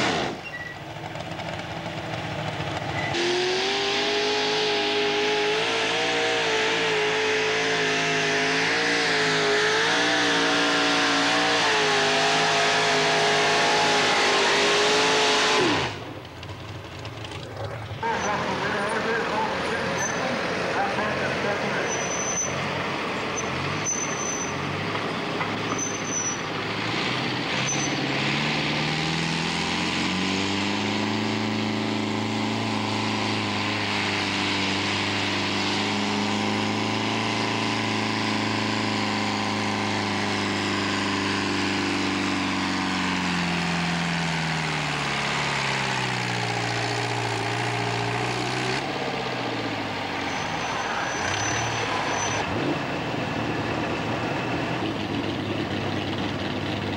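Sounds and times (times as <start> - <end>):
tractor engine under full load: 0.0 - 56.9.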